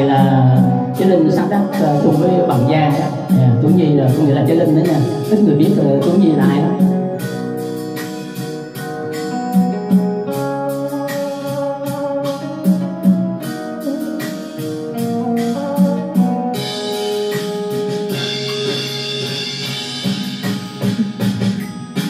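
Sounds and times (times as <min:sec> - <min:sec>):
instrumental backing music: 0:00.0 - 0:22.0.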